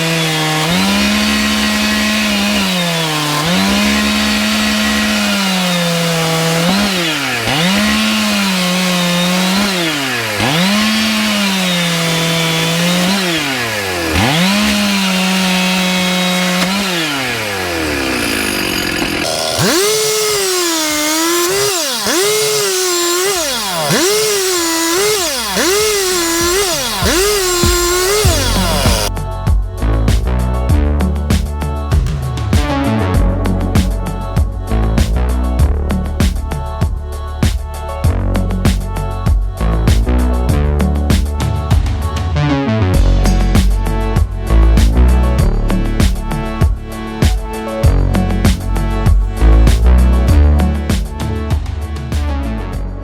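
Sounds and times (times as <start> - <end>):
chainsaw cutting logs: 0.0 - 29.2, 32.6 - 42.2, 43.0 - 53.0.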